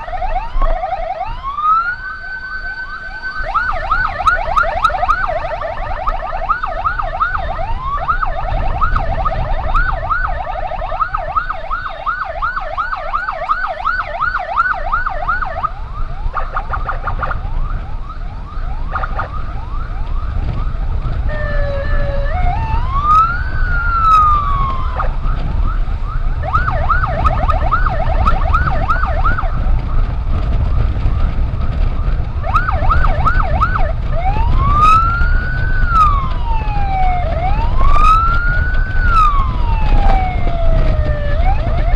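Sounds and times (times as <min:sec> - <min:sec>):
emergency siren yelping and wailing: 0:00.0 - 0:41.9
road and engine rumble: 0:00.0 - 0:41.9.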